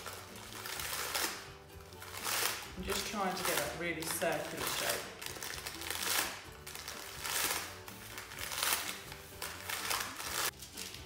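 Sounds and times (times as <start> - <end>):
parchment paper rustling and crinkling: 0.0 - 11.0
soft background music: 0.0 - 11.0.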